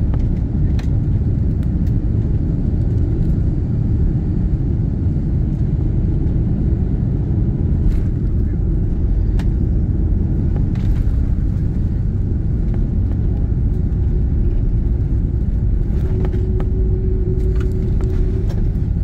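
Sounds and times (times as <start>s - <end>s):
engine and wheel rumble: 0.0s - 19.0s.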